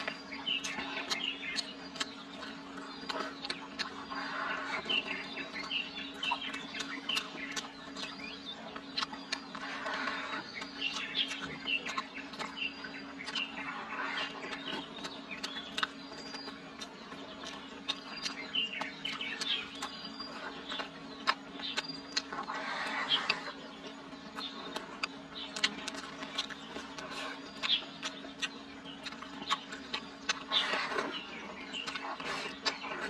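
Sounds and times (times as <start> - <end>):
birds chirping: 0.0 - 33.0
chewing and lip-smacking: 0.0 - 33.0
steady low hum: 0.0 - 33.0.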